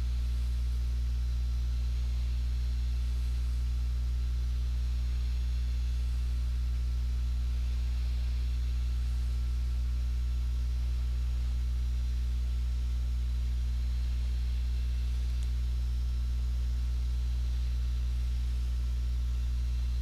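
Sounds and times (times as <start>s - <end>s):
faint hiss: 0.0s - 20.0s
low electrical hum: 0.0s - 20.0s.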